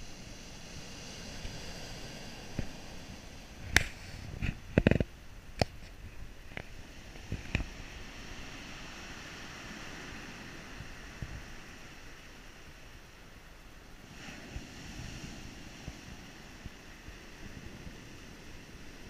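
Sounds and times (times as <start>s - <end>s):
surf washing on pebble beach: 0.0s - 19.0s.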